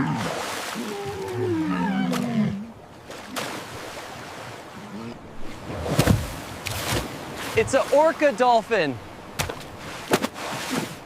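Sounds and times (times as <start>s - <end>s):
ocean waves and rushing water: 0.0s - 11.0s.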